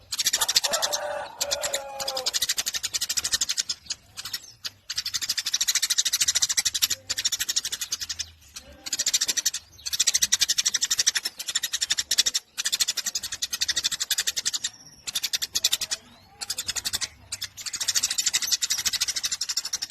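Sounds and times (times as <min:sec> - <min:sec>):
sparrow chattering high chirps: 0:00.0 - 0:19.9.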